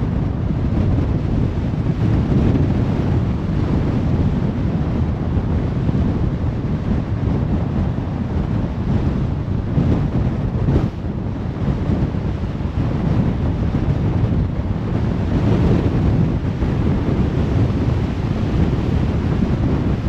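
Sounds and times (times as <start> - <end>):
wind noise: 0.0 - 20.0.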